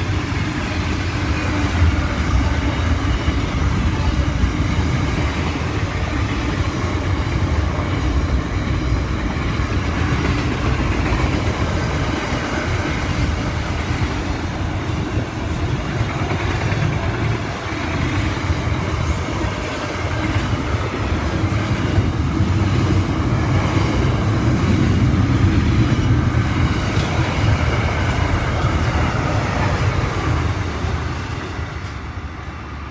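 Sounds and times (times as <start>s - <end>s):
train wheel clatter: 0.0s - 32.4s
freight train rushing past: 0.0s - 32.9s.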